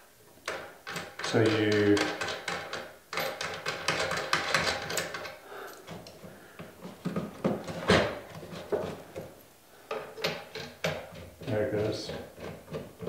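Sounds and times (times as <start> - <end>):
parts clicking and rattling: 0.4 - 13.0.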